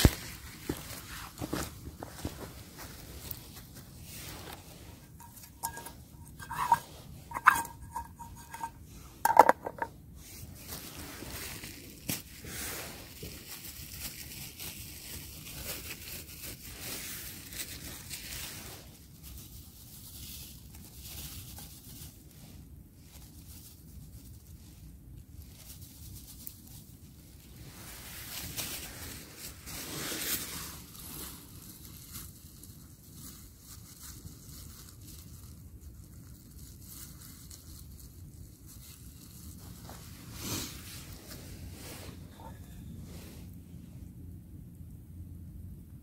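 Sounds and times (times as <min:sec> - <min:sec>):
paper crinkling and rustling: 0:00.0 - 0:06.8, 0:09.5 - 0:42.7.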